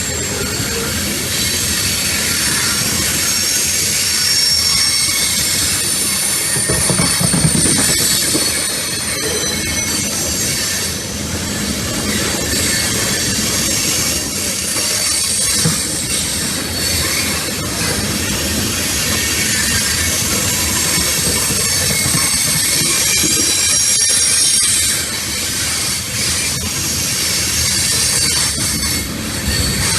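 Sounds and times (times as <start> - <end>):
freight train rumbling past: 0.0 - 29.9
wheel squeal: 0.0 - 29.9
rail clicks: 0.6 - 29.9.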